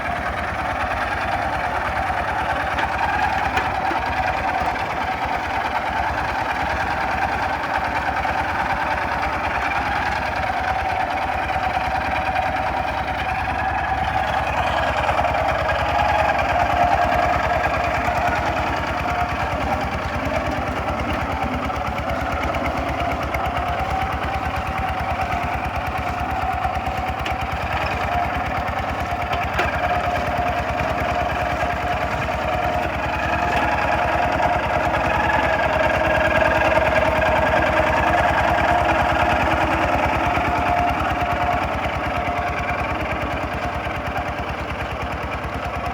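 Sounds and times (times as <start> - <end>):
single-cylinder diesel engine knocking: 0.0 - 45.9.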